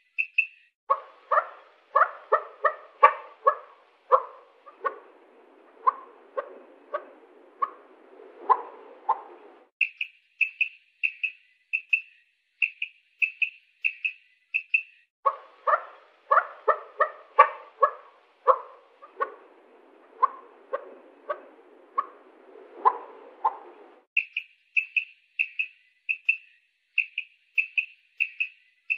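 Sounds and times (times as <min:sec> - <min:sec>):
quail calling: 0:00.0 - 0:26.4.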